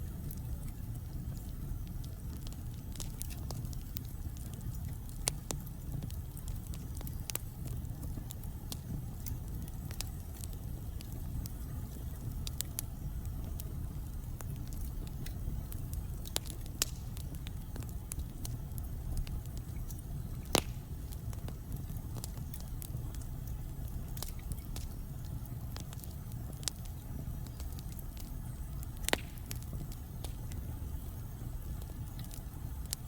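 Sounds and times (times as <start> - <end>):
logs crackling and popping: 0.0 - 33.0
low steady fire rumble: 0.0 - 33.0.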